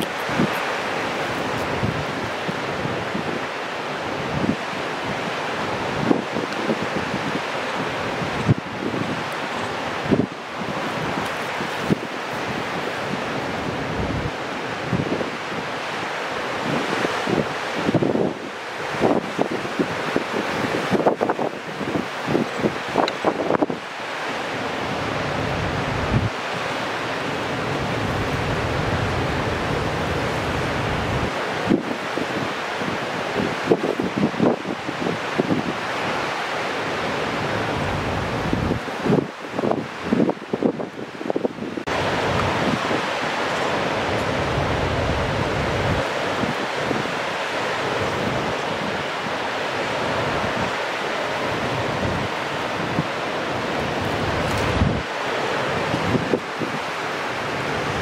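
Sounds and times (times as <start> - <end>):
wind buffeting microphone: 0.0 - 23.9, 24.8 - 36.4, 37.1 - 58.0.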